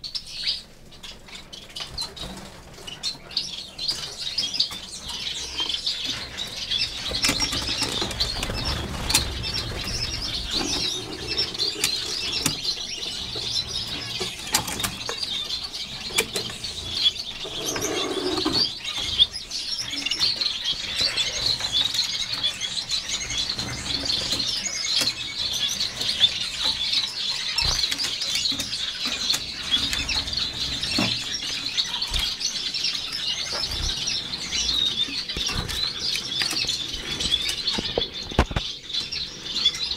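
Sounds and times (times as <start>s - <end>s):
finches chattering: 3.2s - 39.9s.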